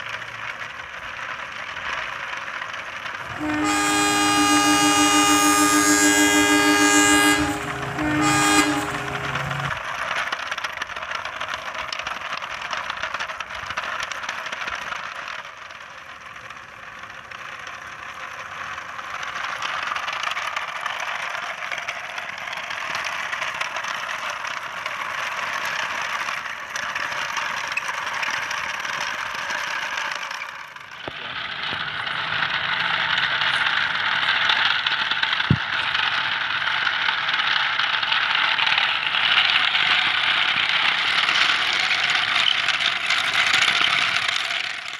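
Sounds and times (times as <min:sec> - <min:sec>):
model train wheels rattling on gravel: 0:00.0 - 0:44.9.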